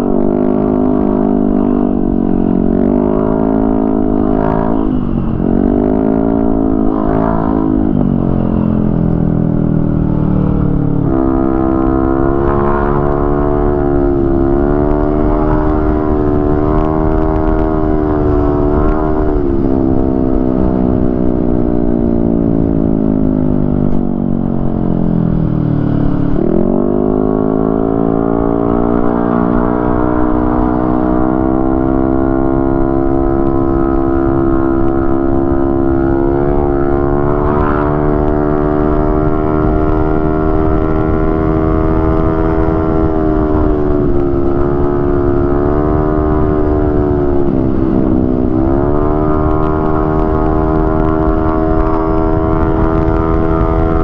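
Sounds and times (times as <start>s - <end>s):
scooter engine at high revs: 0.0s - 54.0s
wind noise: 0.0s - 54.0s.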